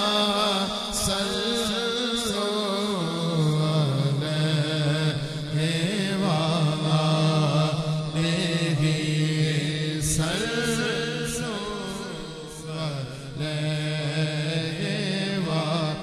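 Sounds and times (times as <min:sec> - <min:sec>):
man singing devotional poetry: 0:00.0 - 0:16.0.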